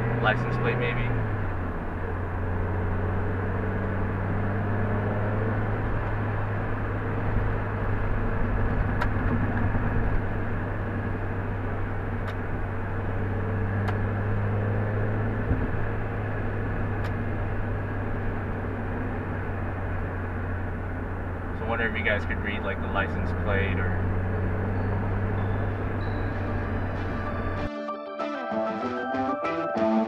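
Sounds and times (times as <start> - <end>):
car engine hum: 0.0 - 27.7
road noise: 0.0 - 27.7.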